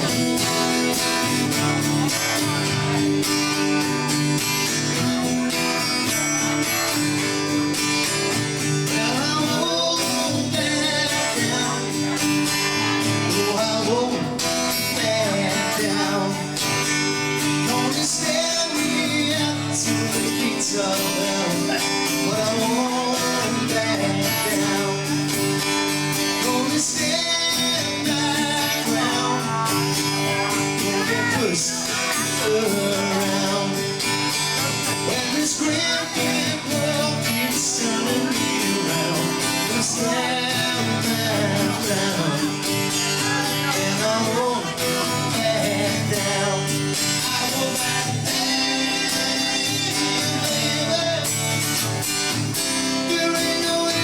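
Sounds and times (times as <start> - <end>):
person singing: 0.0 - 54.0
strummed acoustic guitar: 0.0 - 54.0.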